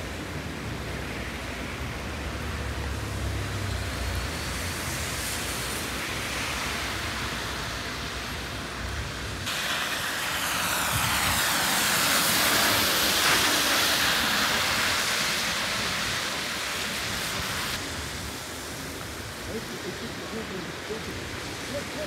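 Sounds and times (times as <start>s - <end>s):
bus passing on wet road: 0.0s - 22.0s.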